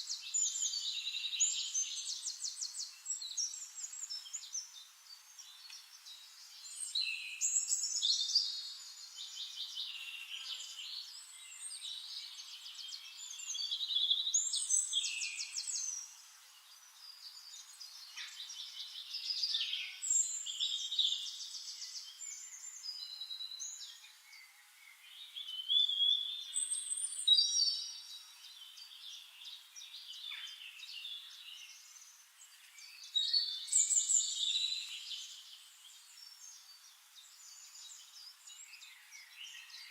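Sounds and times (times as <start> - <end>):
songbirds singing trilled phrases: 0.0 - 39.9.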